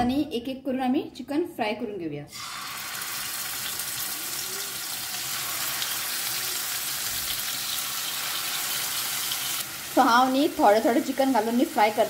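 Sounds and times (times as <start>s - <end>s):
chicken sizzling in hot oil: 2.3s - 12.0s.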